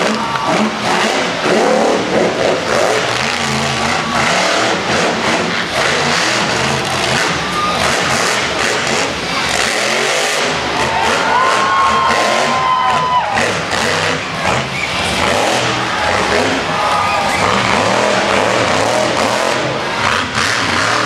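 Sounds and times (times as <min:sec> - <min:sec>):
truck engine revving hard: 0:00.0 - 0:21.0.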